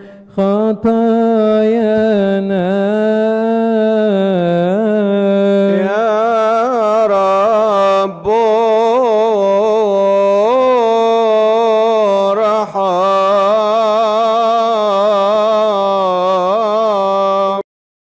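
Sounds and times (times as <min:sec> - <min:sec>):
man chanting: 0:00.0 - 0:17.6.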